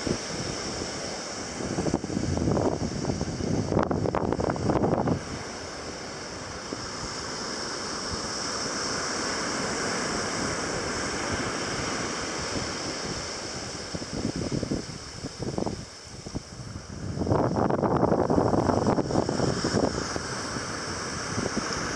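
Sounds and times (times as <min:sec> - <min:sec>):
wind buffeting microphone: 0:00.0 - 0:07.2, 0:10.2 - 0:21.9
surf washing onto beach: 0:00.0 - 0:21.9.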